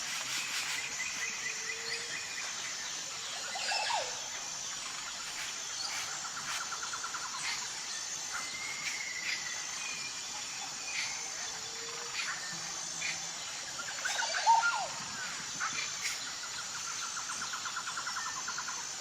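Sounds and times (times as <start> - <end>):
constant hiss: 0.0 - 19.0
high insect drone: 0.0 - 19.0
birds chirping and trilling: 0.5 - 18.8.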